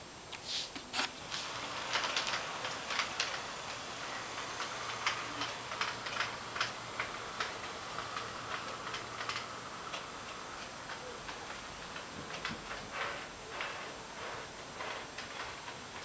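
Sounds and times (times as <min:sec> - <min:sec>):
model train clicks: 0:01.0 - 0:16.0.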